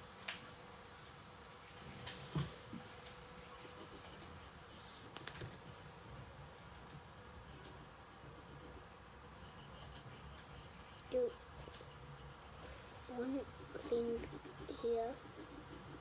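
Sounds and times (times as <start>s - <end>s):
pencil scratching on paper: 2.5s - 16.0s.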